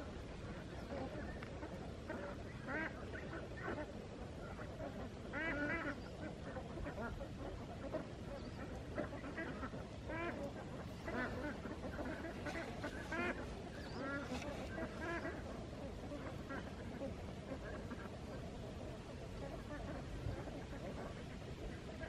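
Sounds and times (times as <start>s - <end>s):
ducks quacking: 0.0s - 22.0s
low background noise: 0.0s - 22.0s.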